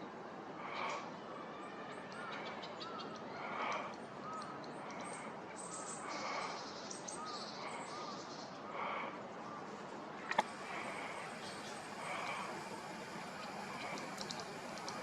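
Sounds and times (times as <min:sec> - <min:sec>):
small birds chipping and twittering: 0:00.0 - 0:15.0
arching whistled bird notes: 0:00.8 - 0:09.7, 0:10.5 - 0:15.0.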